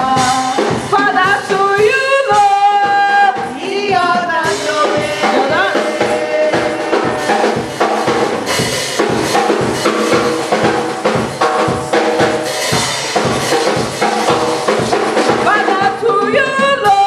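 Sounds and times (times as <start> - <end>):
drum kit beat: 0.0 - 17.0
gospel worship band playing: 0.0 - 17.0.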